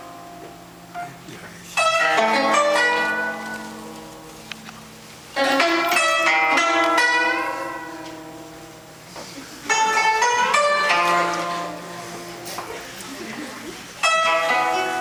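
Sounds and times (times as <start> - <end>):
plucked zither notes: 0.0 - 15.0.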